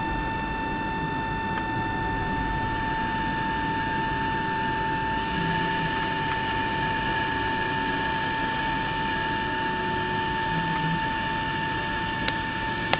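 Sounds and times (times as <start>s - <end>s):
high-pitched whine: 0.0s - 12.9s.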